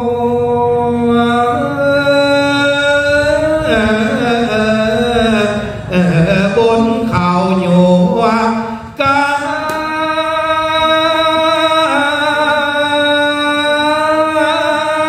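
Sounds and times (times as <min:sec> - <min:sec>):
man chanting over microphone: 0:00.0 - 0:15.0.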